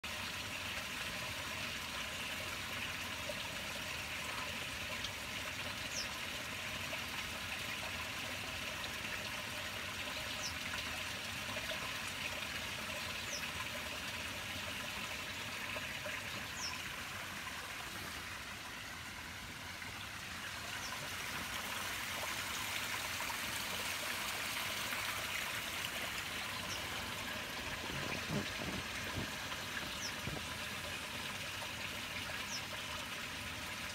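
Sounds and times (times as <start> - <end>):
water rushing and trickling: 0.0 - 33.9.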